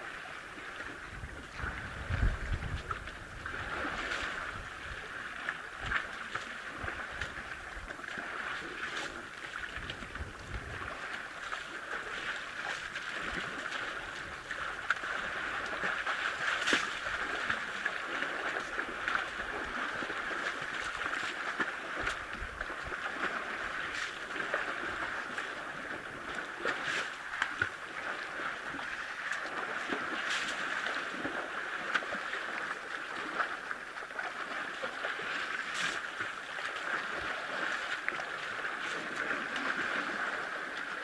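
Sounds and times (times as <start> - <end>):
water sloshing: 0.0 - 41.0
sharp water splashes: 1.5 - 41.0.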